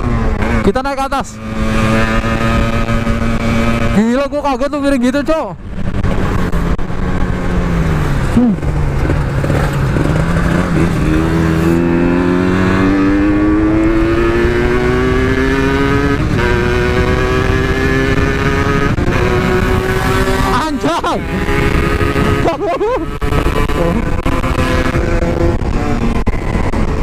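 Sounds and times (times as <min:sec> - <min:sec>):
two-stroke motorcycle engine accelerating: 0:00.0 - 0:27.0.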